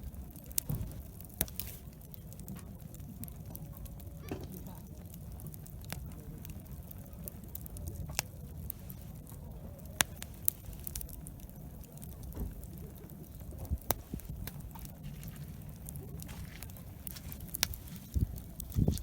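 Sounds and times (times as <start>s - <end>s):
campfire crackling: 0.0s - 19.0s
low steady rumble: 0.0s - 19.0s
sharp fire pops: 0.0s - 19.0s.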